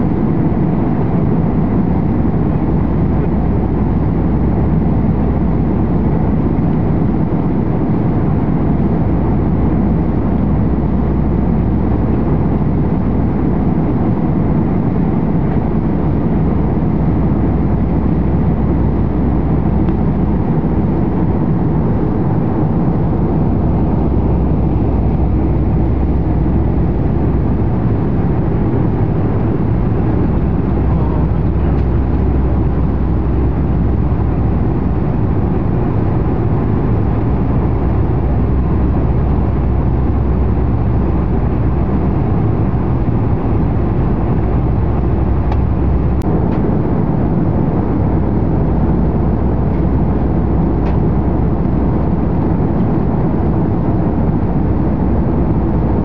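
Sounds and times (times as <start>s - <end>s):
jet cabin low rumble: 0.0s - 56.0s.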